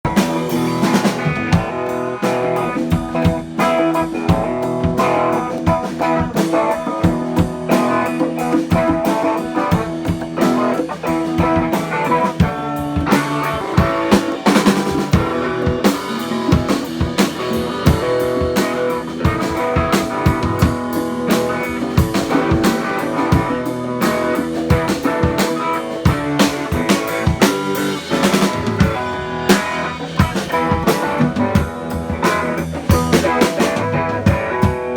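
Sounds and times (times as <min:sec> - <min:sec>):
drum kit beat: 0:00.0 - 0:34.9
electric guitar: 0:00.0 - 0:34.9.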